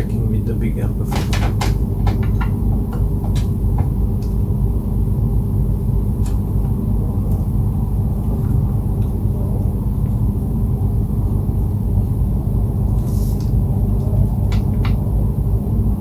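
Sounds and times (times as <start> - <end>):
low rumble and hum: 0.0 - 16.0.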